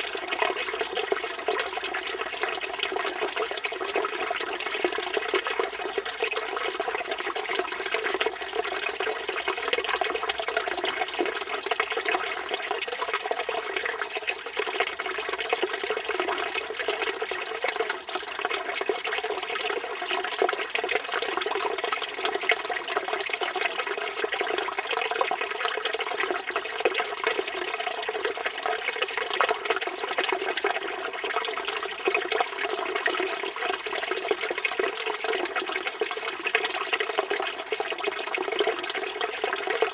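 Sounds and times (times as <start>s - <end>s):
fountain water splashing into basin: 0.0s - 39.9s.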